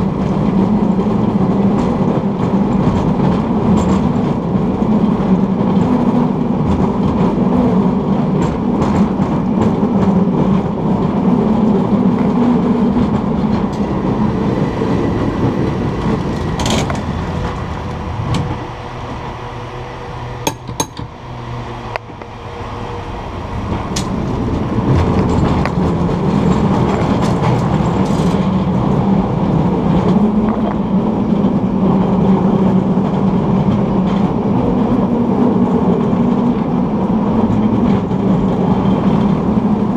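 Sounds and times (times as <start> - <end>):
cable car rumble and rattle: 0.0 - 39.9.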